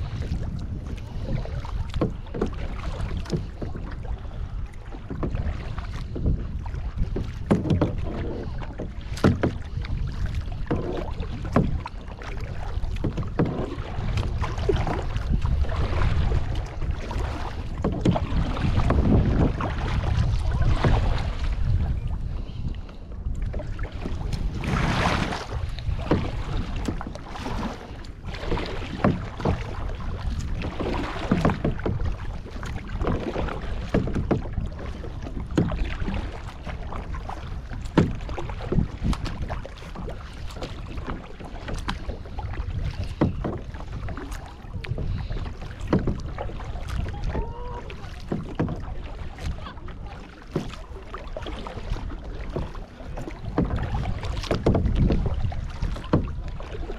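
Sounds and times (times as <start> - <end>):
paddle strokes splashing: 0.0 - 56.9
water lapping against hull: 0.0 - 56.9
wind on microphone: 0.0 - 56.9.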